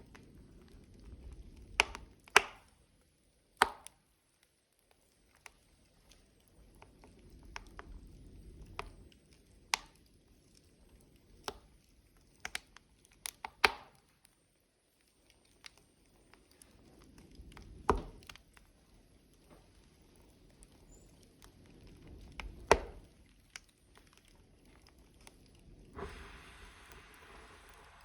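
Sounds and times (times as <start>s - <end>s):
logs crackling and popping: 0.0s - 28.0s.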